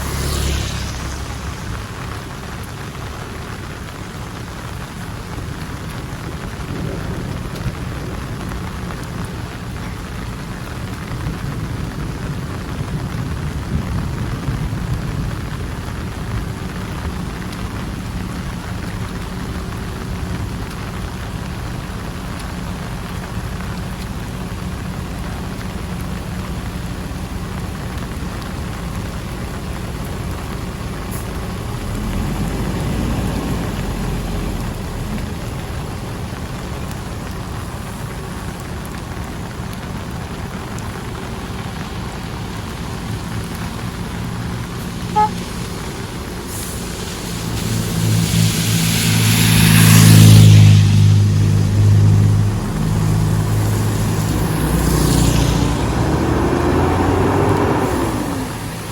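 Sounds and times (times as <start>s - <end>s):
heavy rain hissing: 0.0s - 58.9s
vehicle passing on wet road: 0.0s - 58.9s.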